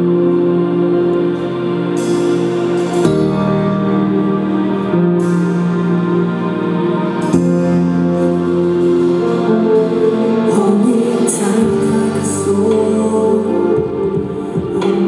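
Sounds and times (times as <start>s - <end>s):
live pop band music: 0.0s - 15.0s.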